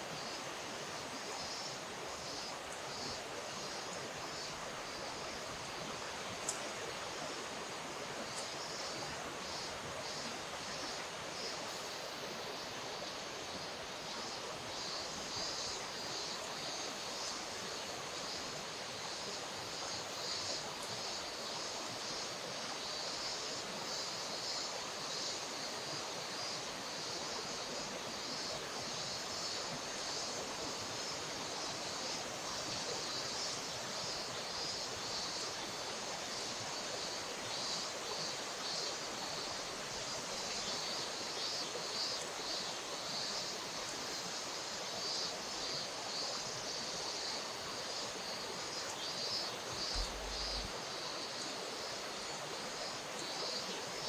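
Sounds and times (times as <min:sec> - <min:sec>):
high-pitched hiss: 0:00.0 - 0:54.0
river water flowing: 0:00.0 - 0:54.0.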